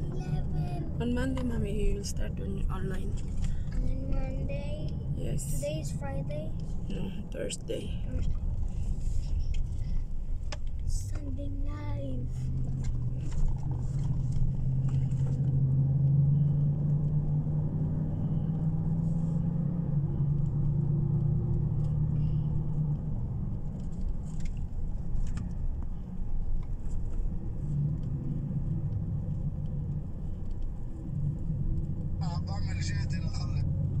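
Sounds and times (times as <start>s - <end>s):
car engine: 0.0s - 34.0s
road rumble: 0.0s - 34.0s.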